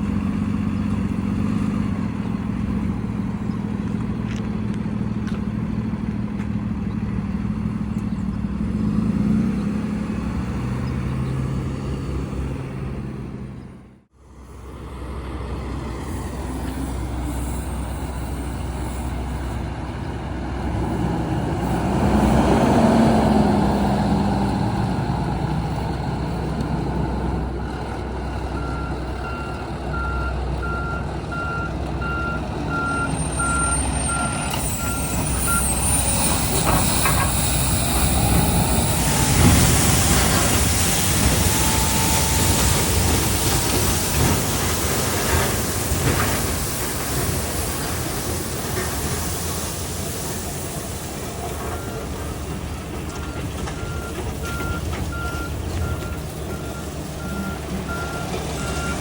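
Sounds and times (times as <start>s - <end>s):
heavy machinery engine rumble: 0.0s - 59.0s.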